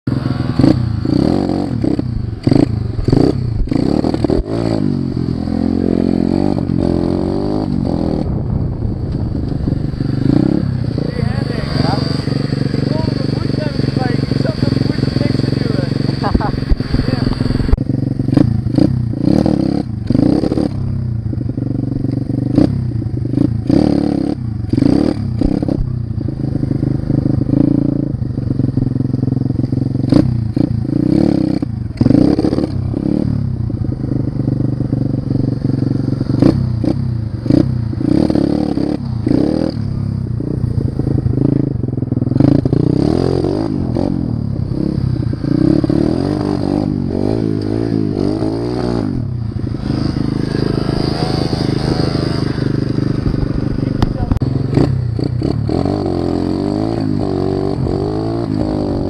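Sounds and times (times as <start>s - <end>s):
small motorbike engine revving: 0.1s - 8.5s, 9.4s - 59.0s.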